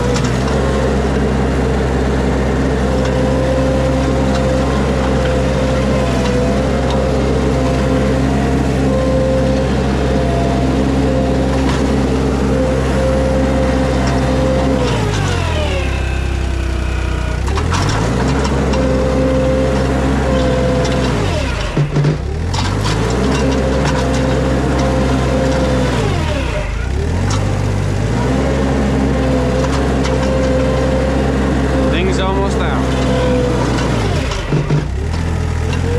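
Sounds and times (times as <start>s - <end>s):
skid steer engine revving: 0.0s - 35.9s.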